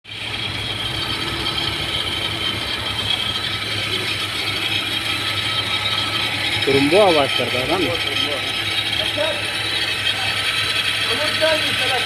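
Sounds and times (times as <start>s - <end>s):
car engine idling unevenly: 0.1s - 12.0s
high-pitched whine: 0.1s - 12.0s.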